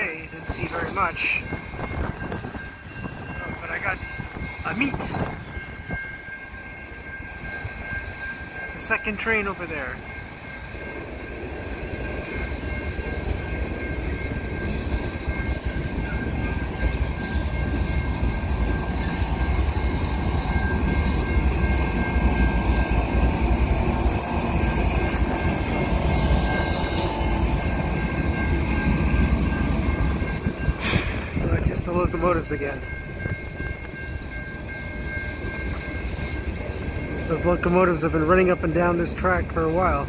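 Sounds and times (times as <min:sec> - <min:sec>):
steady high-pitched ring: 0:00.0 - 0:40.0
train wheels rumbling on rails: 0:00.0 - 0:40.0.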